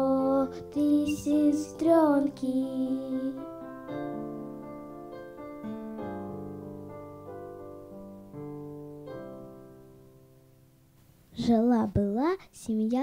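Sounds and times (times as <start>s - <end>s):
piano playing slow chords: 0.0s - 11.0s.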